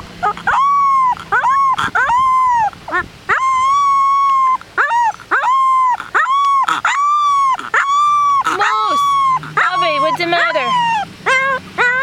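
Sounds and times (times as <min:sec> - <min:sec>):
puppy howling: 0:00.1 - 0:12.0
puppy yelping: 0:00.1 - 0:12.0.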